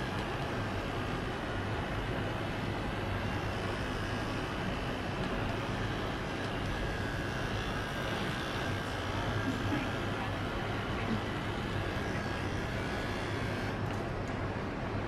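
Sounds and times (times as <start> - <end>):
microneedling pen motor buzz: 0.0 - 14.0.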